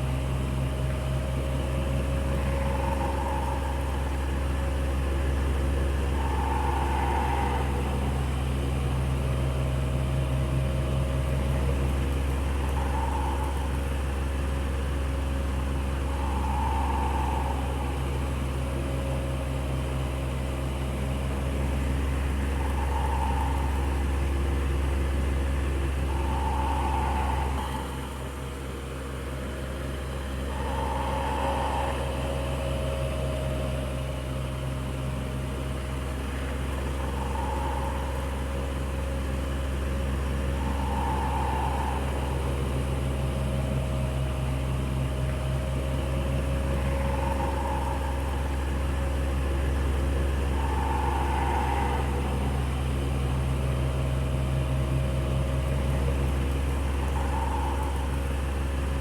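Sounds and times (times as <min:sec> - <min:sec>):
electric fan running: 0:00.0 - 0:28.5, 0:29.8 - 0:59.0.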